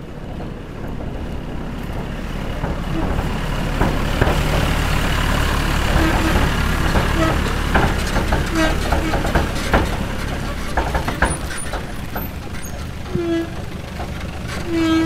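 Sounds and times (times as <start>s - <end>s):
heavy machinery engine drone: 0.0s - 15.0s
sharp metallic knocks: 0.3s - 13.7s.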